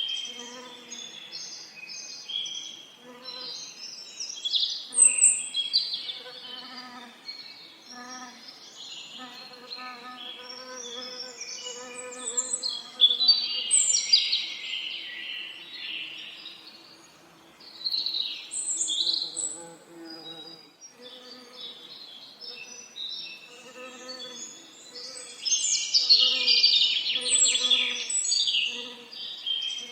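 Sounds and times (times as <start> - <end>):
songbirds singing: 0.0 - 29.9.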